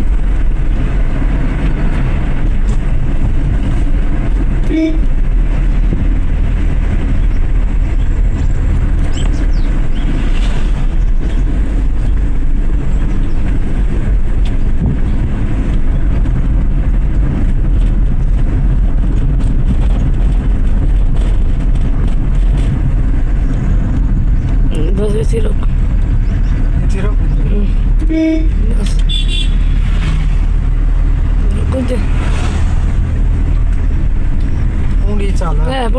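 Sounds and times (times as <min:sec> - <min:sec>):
car engine and road rumble: 0:00.0 - 0:35.9.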